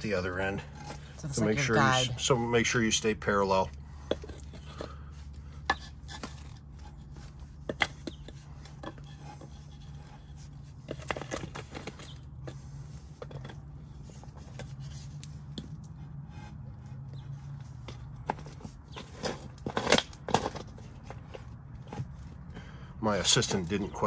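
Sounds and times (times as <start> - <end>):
concrete pavers knocking and scraping: 0.0 - 24.0
steady low hum: 0.0 - 24.0.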